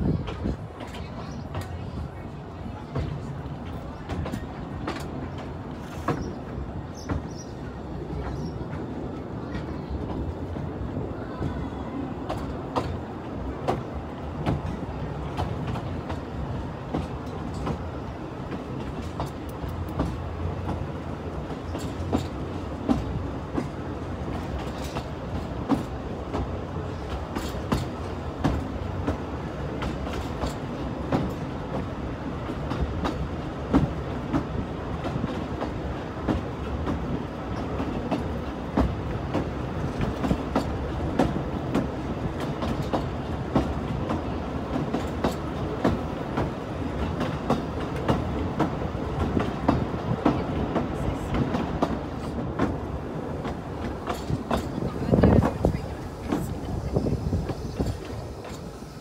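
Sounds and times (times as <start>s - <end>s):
railway coach rumble: 0.0s - 59.0s.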